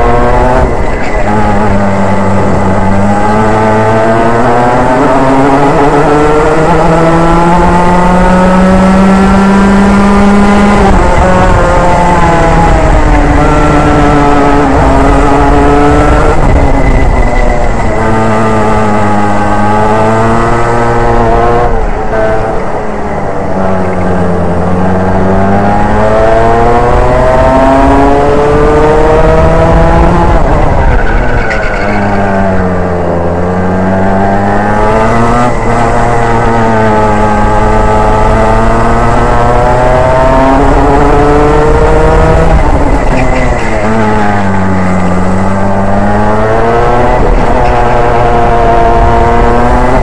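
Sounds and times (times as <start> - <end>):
kart engine revving: 0.0 - 50.0.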